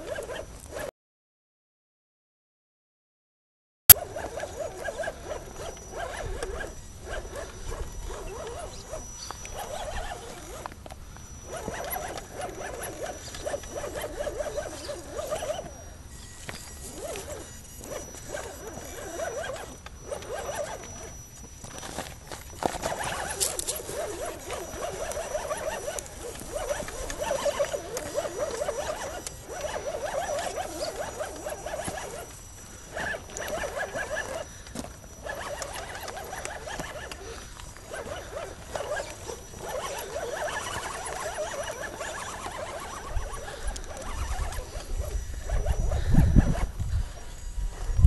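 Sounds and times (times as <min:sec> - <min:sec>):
rc car motor whining: 0:03.9 - 0:48.0.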